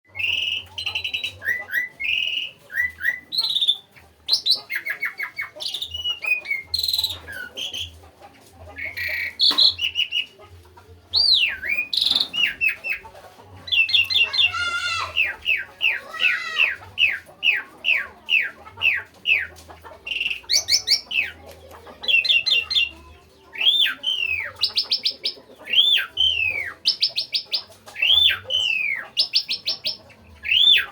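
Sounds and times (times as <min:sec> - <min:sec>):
starling singing: 0:00.1 - 0:30.9.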